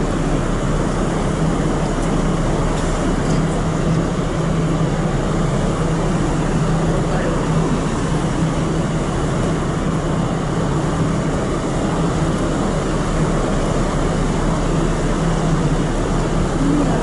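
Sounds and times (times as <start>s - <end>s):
ferry engines humming: 0.0s - 17.0s
wind and sea noise: 0.0s - 17.0s.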